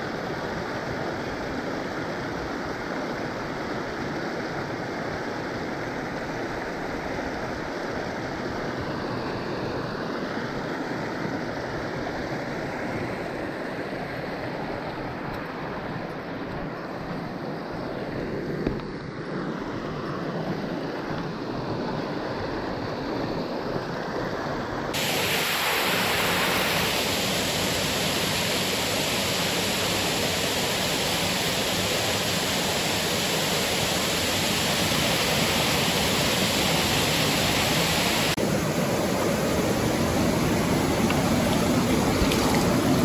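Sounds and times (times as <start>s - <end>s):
rushing creek water: 0.0s - 43.0s.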